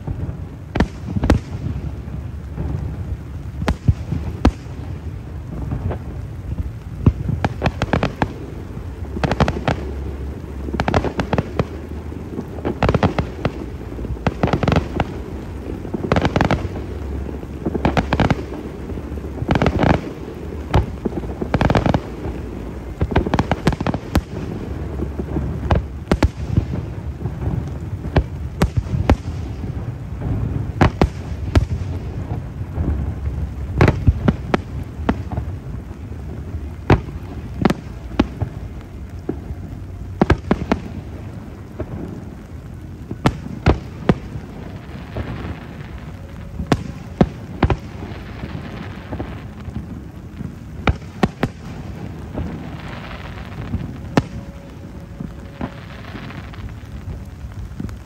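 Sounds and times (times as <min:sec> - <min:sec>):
fireworks bangs: 0:00.0 - 0:58.0
low rumble: 0:00.0 - 0:58.0.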